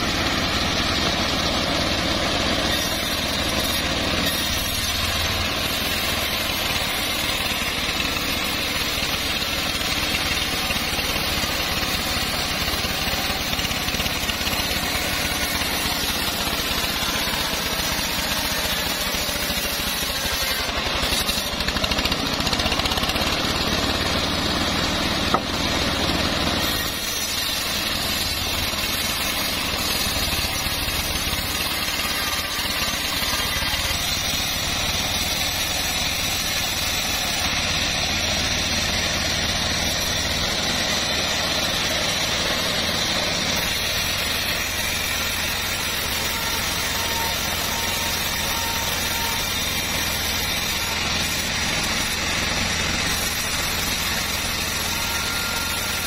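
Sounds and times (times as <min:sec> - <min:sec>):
bandsaw blade ripping wood: 0:00.0 - 0:56.0.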